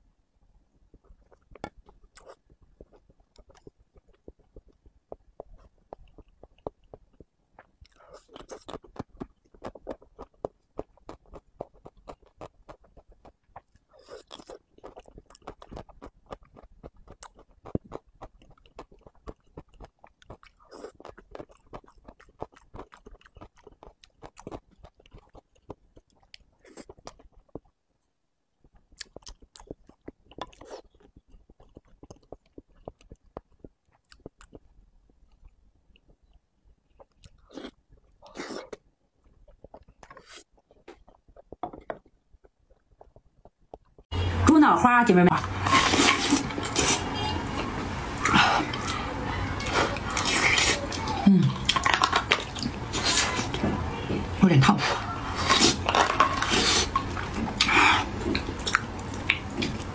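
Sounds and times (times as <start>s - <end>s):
close-miked wet chewing: 0.8s - 44.3s, 45.3s - 59.9s.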